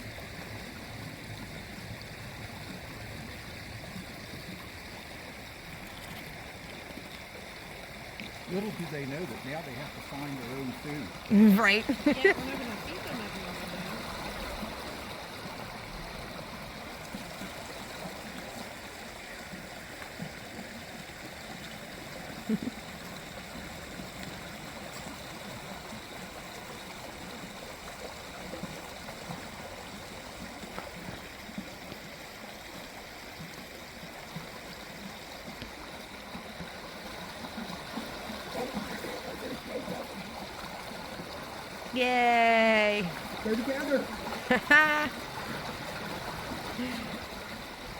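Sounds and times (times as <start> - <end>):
creek water rushing and gurgling: 0.0 - 47.9.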